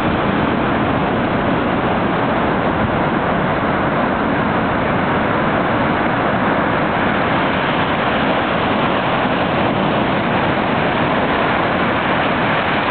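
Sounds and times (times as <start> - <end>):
ocean surf breaking: 0.0 - 12.9.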